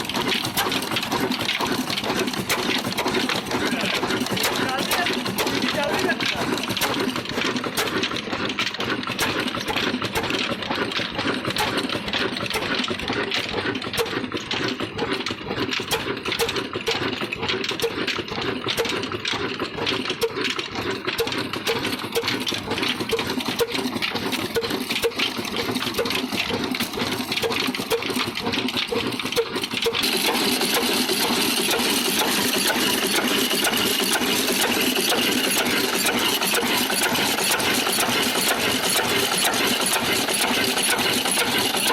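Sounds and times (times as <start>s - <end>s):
diesel engine knocking: 0.0s - 41.9s.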